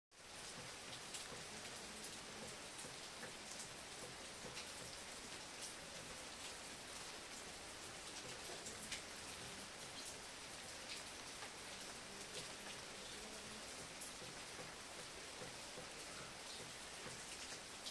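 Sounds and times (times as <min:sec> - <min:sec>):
light rain falling: 0:00.1 - 0:17.9
raindrops ticking: 0:00.2 - 0:17.9.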